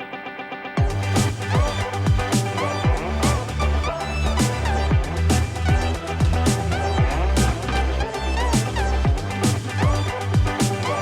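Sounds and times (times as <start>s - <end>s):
upbeat electronic music: 0.8s - 11.0s.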